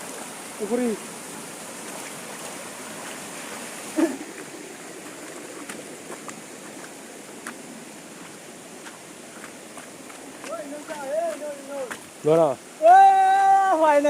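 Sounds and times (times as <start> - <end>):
flowing water rushing: 0.0 - 14.0.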